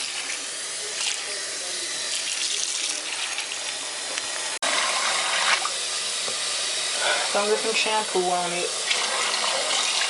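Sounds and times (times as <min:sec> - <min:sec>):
faucet water running and splashing: 0:00.0 - 0:06.6, 0:07.3 - 0:10.0.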